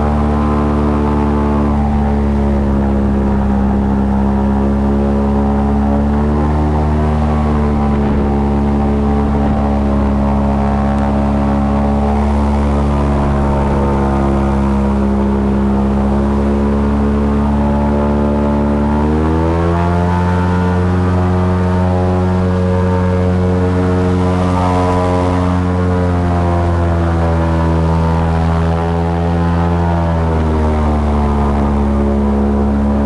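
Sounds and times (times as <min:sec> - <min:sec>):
airboat engine and propeller: 0:00.0 - 0:33.0.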